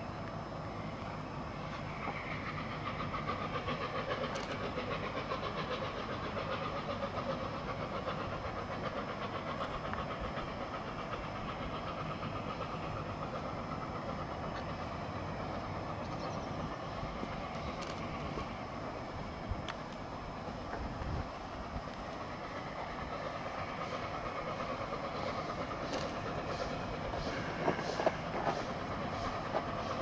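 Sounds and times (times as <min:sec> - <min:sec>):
steam train rumbling past: 0:00.0 - 0:30.0
wheels clattering on rails: 0:01.0 - 0:30.0.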